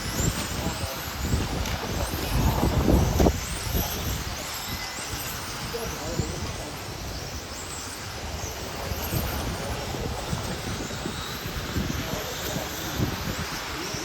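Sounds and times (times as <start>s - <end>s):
steady hiss of running noise: 0.0s - 14.0s
wind buffeting on microphone: 0.0s - 14.0s.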